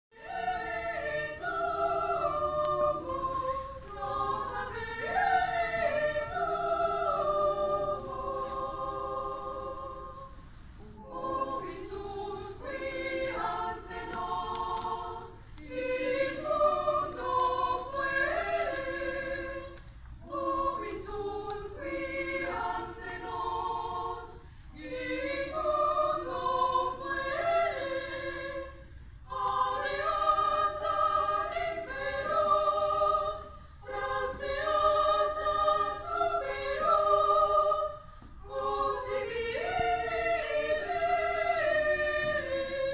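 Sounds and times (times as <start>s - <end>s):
choir singing: 0.1s - 42.9s.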